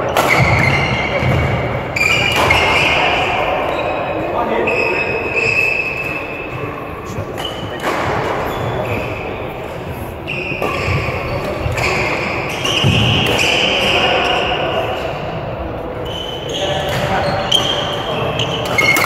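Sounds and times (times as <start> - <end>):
indistinct echoing voices: 0.0 - 19.0.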